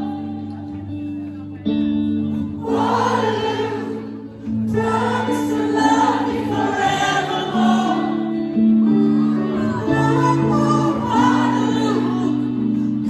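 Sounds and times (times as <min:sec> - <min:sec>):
held keyboard chords: 0:00.0 - 0:13.0.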